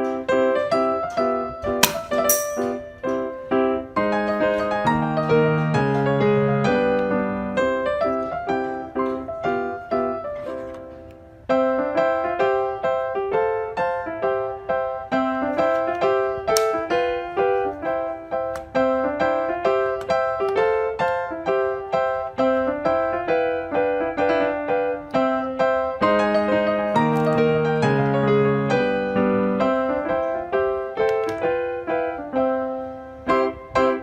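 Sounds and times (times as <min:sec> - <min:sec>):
piano melody: 0:00.0 - 0:34.0.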